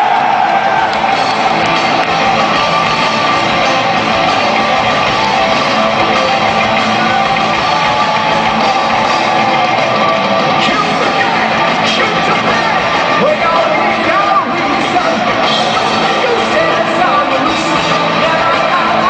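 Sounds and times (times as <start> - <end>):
electric guitars: 0.0 - 19.0
heavy metal band playing live: 0.0 - 19.0.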